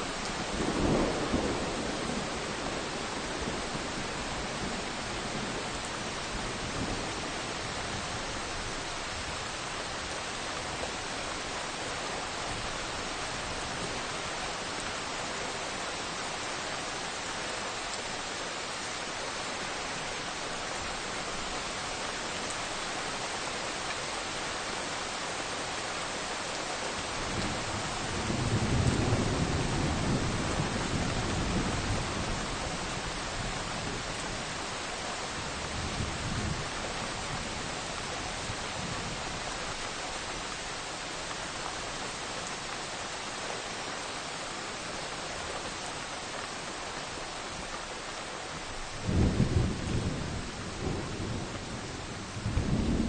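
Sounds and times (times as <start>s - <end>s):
rain falling in forest: 0.0s - 53.0s.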